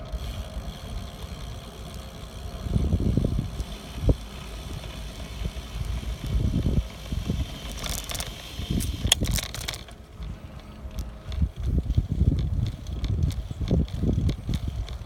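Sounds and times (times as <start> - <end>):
bike clicks and rattles: 0.0 - 15.0
wind rumble on microphone: 0.0 - 15.0.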